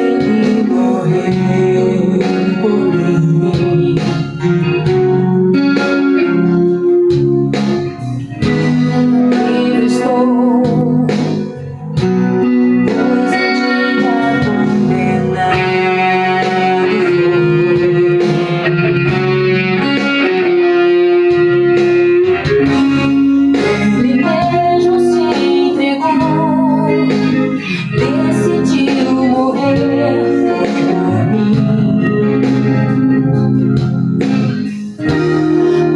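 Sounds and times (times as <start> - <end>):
electric guitar with effects: 0.0 - 35.9
recorded worship song: 0.0 - 35.9.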